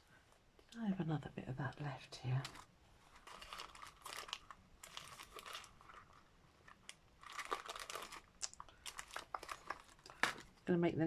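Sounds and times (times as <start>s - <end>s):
fabric and paper crinkling: 1.8s - 10.7s.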